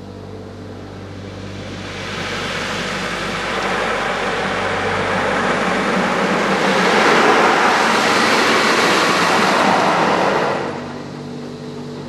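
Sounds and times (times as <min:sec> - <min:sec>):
water jets spraying on car: 0:00.4 - 0:11.2.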